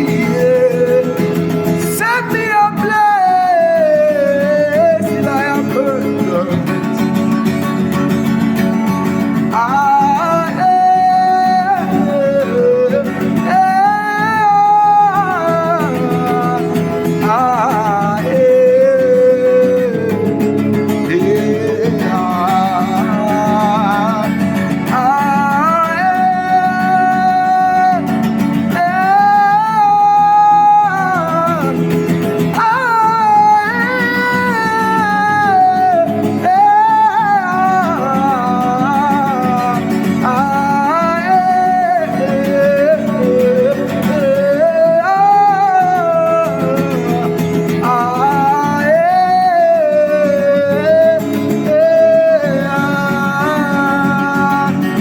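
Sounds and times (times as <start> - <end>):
person singing gospel song: 0.0 - 6.7, 9.5 - 20.4, 21.1 - 55.0
acoustic guitar chords: 0.0 - 55.0.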